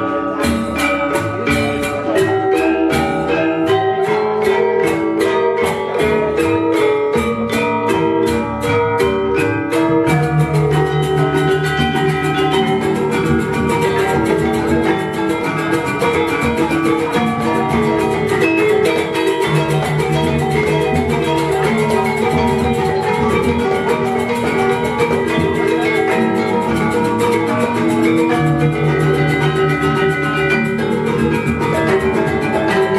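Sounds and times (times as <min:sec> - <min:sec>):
metallophones struck with mallets: 0:00.0 - 0:32.9.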